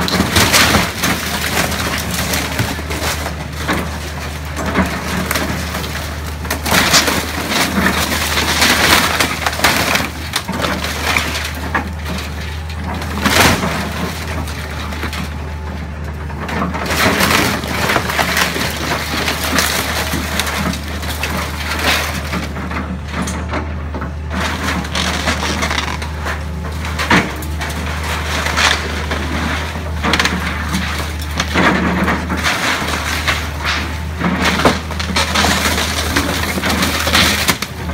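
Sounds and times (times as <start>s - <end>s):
excavator diesel engine hum: 0.0s - 37.9s
timber cracking and splintering: 0.0s - 37.9s.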